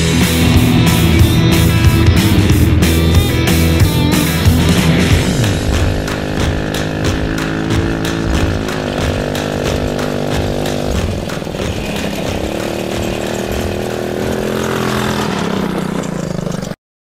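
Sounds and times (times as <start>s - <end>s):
buzzy synth chords: 0.0s - 13.6s
music beat: 0.0s - 14.9s.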